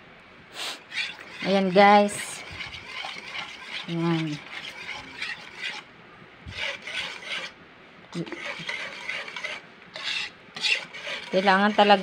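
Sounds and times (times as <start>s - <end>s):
utensil scraping against a pot: 0.8s - 5.9s, 6.5s - 7.6s, 8.2s - 12.0s.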